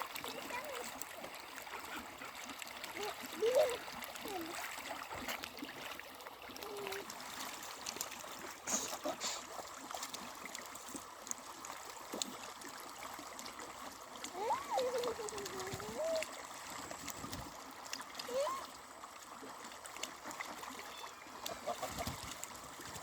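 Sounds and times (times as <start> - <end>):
water splashes: 0.0 - 23.0
water trickling and gurgling: 0.0 - 23.0.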